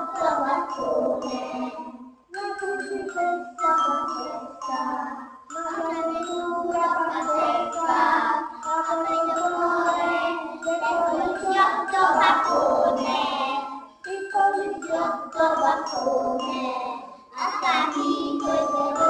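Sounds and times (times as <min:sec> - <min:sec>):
children's music with bell tones: 0:00.0 - 0:19.0.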